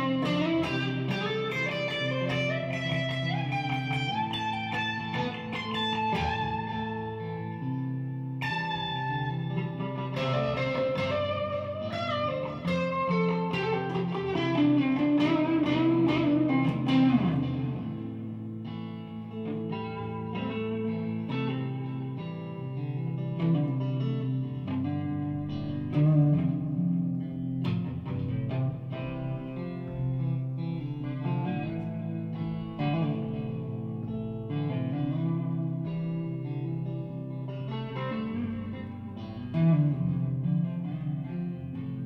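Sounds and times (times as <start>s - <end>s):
electric guitar solo: 0.0s - 42.0s.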